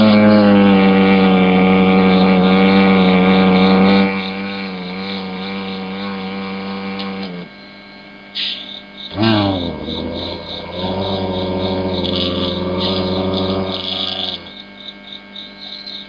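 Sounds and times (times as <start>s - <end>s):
panda snoring: 0.0s - 7.5s, 9.1s - 14.6s.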